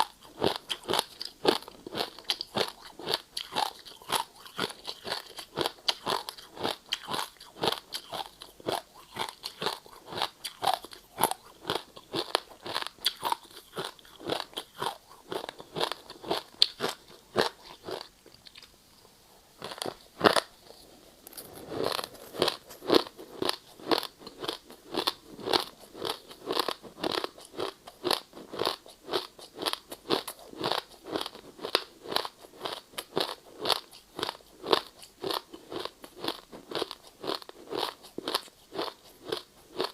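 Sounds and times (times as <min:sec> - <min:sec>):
person chewing ice: 0:00.0 - 0:18.8, 0:19.6 - 0:39.9.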